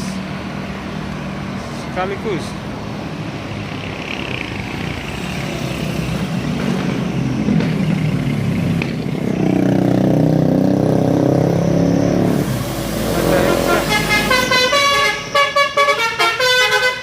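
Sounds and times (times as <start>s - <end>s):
bus diesel engines passing: 0.0s - 17.0s.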